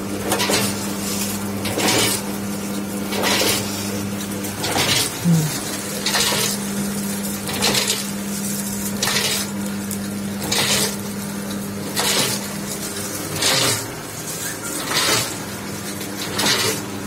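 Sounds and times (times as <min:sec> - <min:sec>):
packaging machine motor hum: 0:00.0 - 0:17.0.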